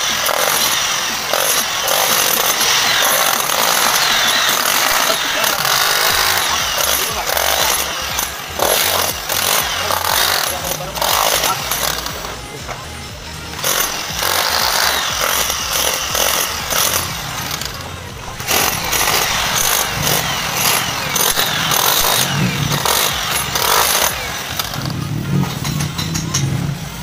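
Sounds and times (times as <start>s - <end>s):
electric chipping hammer on concrete: 0.0s - 26.6s.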